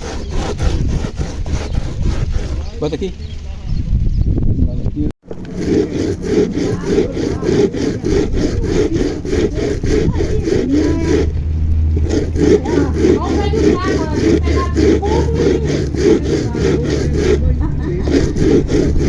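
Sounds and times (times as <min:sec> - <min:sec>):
corn scraping on grater: 0:00.0 - 0:03.1, 0:05.3 - 0:19.0.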